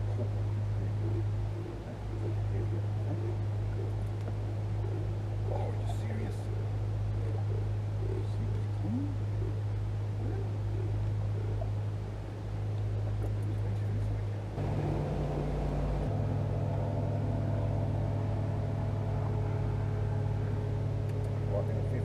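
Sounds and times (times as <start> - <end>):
boat motor humming: 0.0 - 22.0
higher many-toned hum: 0.0 - 22.0.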